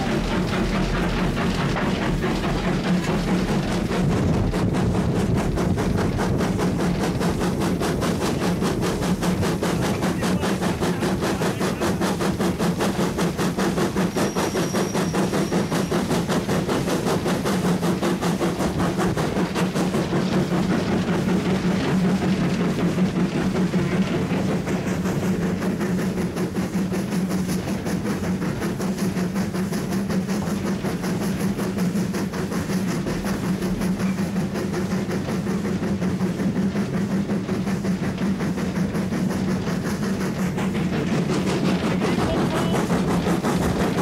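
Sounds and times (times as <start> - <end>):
steam locomotive exhaust beats: 0.0 - 44.0
wheels rumbling on track: 0.0 - 44.0.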